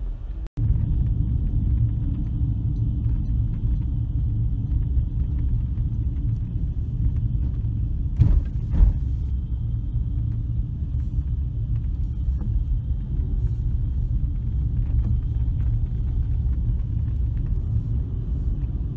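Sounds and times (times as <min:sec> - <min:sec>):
car engine rumble: 0:00.0 - 0:18.9
road noise inside car: 0:00.0 - 0:18.9.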